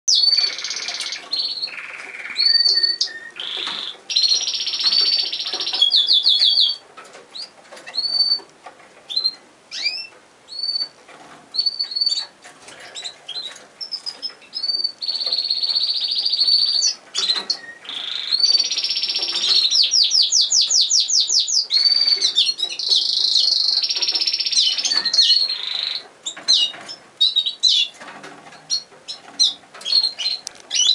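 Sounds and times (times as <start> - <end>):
canaries trilling: 0.1 - 30.9.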